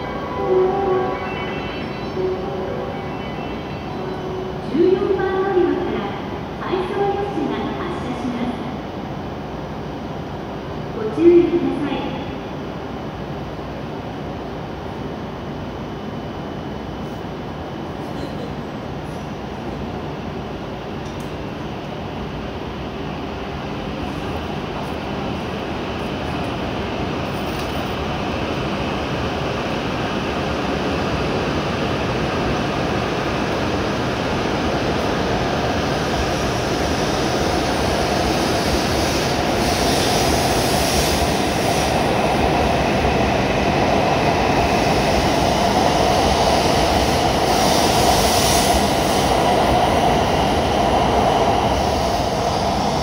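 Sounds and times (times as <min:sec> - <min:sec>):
train running noise: 0:00.0 - 0:53.0.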